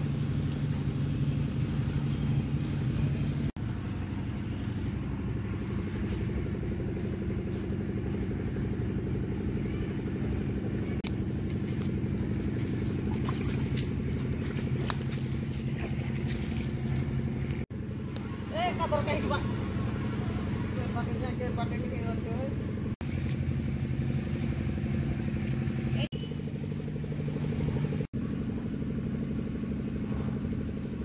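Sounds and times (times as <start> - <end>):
low engine-like drone: 0.0 - 31.0.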